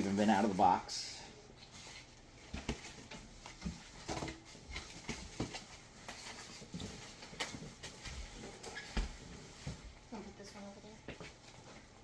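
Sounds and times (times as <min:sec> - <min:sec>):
cardboard packaging rustling: 0:00.0 - 0:12.0.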